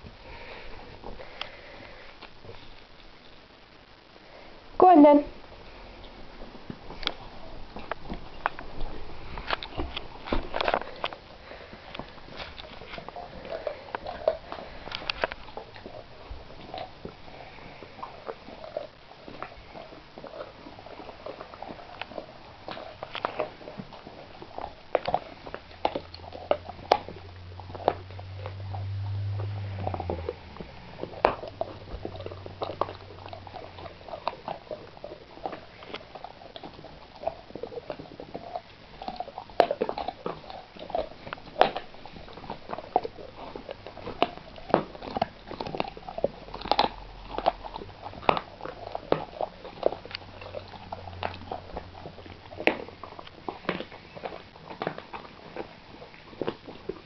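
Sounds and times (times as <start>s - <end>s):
dog teeth cracking on bone: 6.4s - 57.0s.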